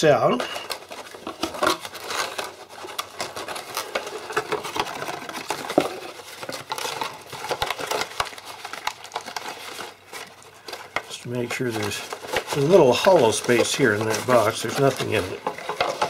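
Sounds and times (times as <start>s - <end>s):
cardboard scraping and rustling: 0.6s - 16.0s.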